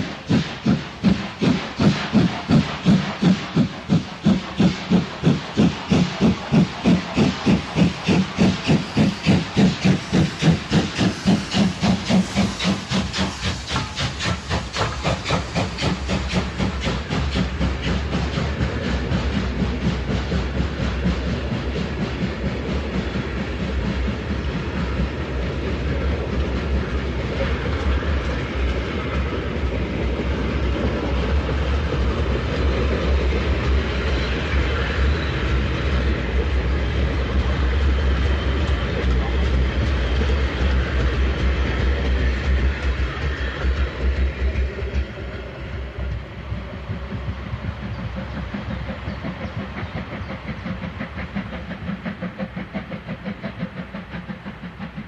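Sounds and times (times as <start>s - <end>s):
rolling rumble with hiss: 0.0s - 55.0s
steam locomotive exhaust chuffs: 0.0s - 55.0s.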